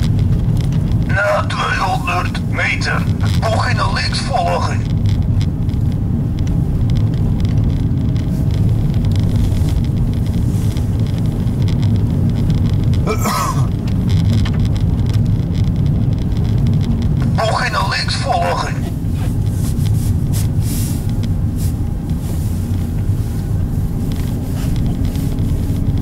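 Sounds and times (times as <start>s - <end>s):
car engine and tyres on snow: 0.0s - 26.0s.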